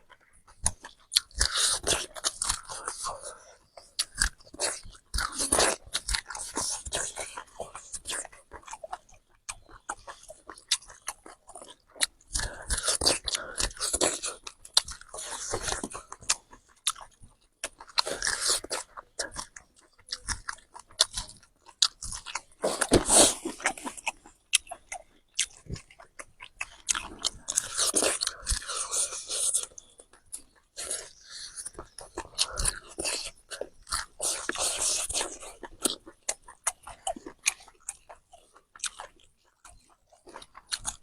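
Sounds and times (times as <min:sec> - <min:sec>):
jaw clicks: 0:00.1 - 0:41.0
pig crunching corn: 0:00.2 - 0:41.0.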